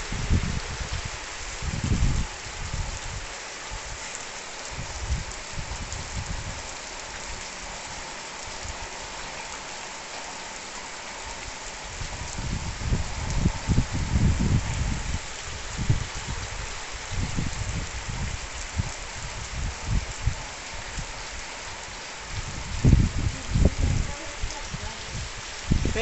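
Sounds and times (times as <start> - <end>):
rain on concrete and roofs: 0.0 - 26.0.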